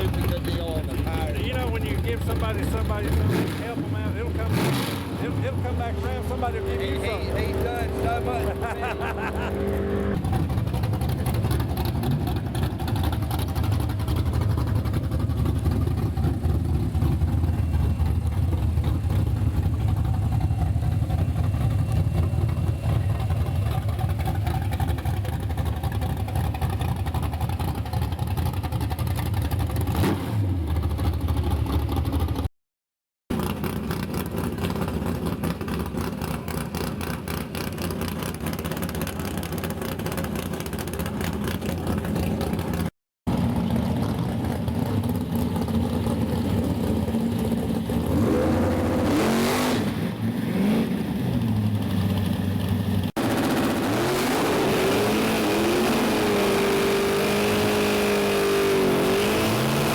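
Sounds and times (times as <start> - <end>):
car engine running: 0.0 - 30.0, 33.3 - 49.5, 50.9 - 59.9.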